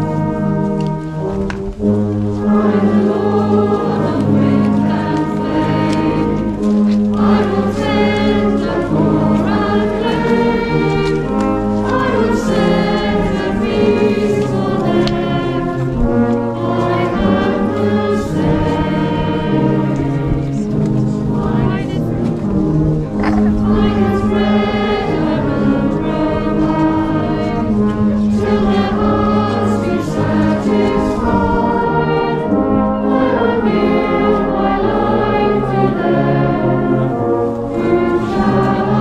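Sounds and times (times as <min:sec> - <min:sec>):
brass band playing chords: 0:00.0 - 0:39.0
congregation singing a hymn: 0:00.0 - 0:39.0.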